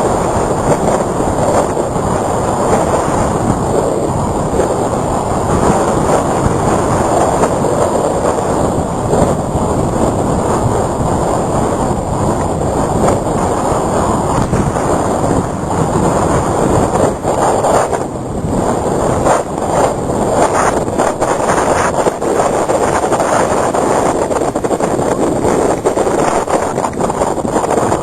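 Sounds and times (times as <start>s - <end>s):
strong wind blowing: 0.0s - 28.0s
wind rumbling on microphone: 0.0s - 28.0s.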